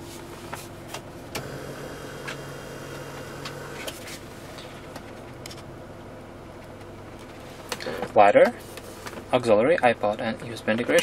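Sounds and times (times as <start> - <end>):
low hum in car cabin: 0.0 - 11.0.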